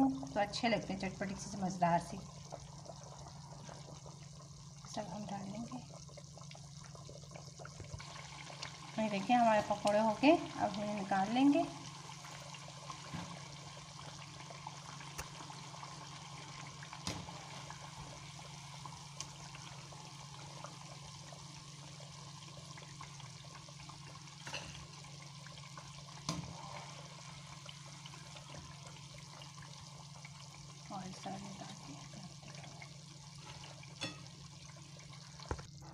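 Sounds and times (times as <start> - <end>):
deep-frying sizzle: 0.0 - 35.9
low steady hum: 0.0 - 35.9.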